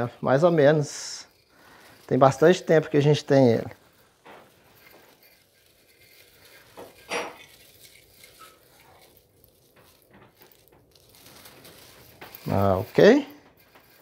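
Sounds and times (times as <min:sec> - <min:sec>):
ornaments clinking and rustling: 0:00.0 - 0:14.0.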